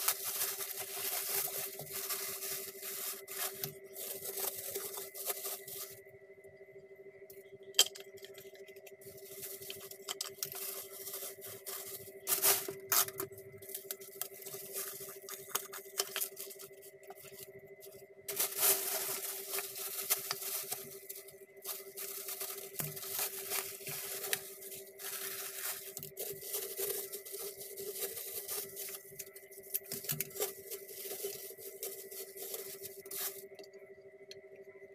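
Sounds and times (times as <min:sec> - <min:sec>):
plastic bag crinkling: 0:00.0 - 0:06.0, 0:09.0 - 0:17.5, 0:18.3 - 0:33.6
steady background hum: 0:00.0 - 0:34.9.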